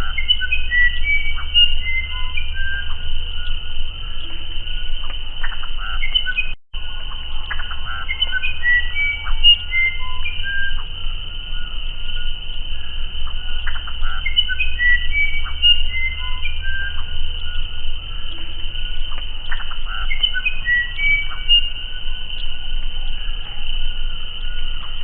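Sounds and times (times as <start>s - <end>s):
bird whistled song: 0.0s - 25.0s
insect drone: 0.0s - 25.0s.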